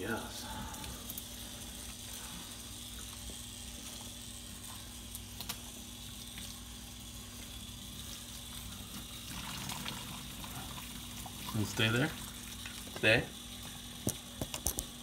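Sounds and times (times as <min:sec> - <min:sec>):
faucet water running: 0:00.0 - 0:15.0.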